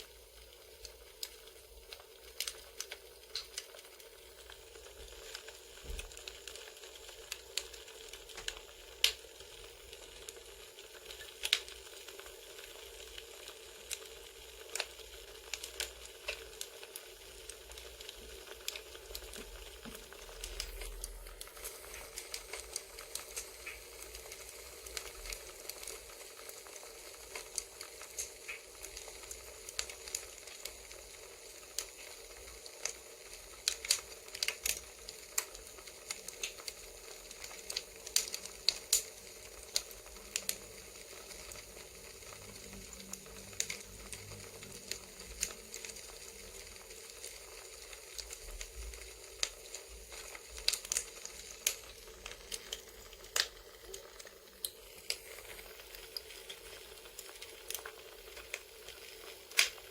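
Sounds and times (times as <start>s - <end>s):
campfire crackling and popping: 0.0s - 59.9s
fire hiss: 0.0s - 59.9s.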